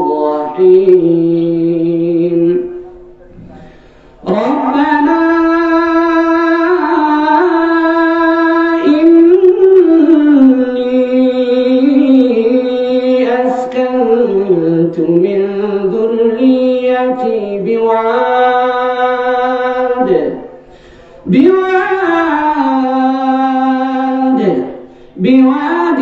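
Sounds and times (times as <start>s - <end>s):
man chanting recitation: 0.0s - 26.0s.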